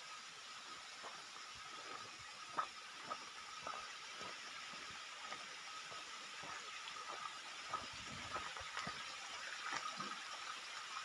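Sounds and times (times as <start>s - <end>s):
mountain stream flowing: 0.0s - 11.0s.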